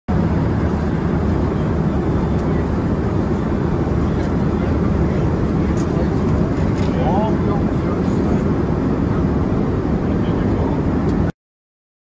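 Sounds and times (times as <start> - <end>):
airliner cabin rumble: 0.1 - 11.3.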